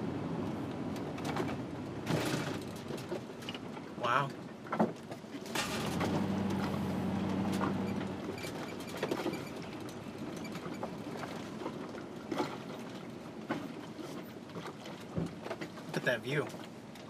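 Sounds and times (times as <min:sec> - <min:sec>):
low engine hum: 0:00.0 - 0:17.0
road noise: 0:00.0 - 0:17.0.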